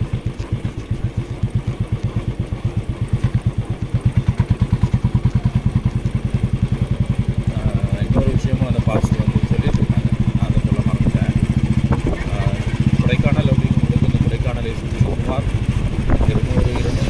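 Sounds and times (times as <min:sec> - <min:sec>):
motorcycle engine throbbing: 0:00.0 - 0:17.0.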